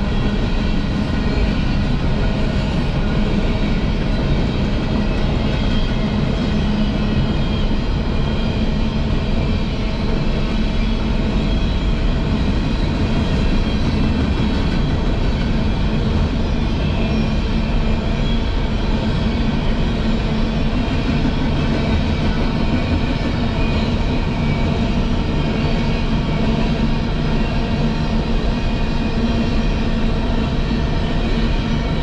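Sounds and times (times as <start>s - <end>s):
train wheels rolling on rails: 0.0s - 32.0s.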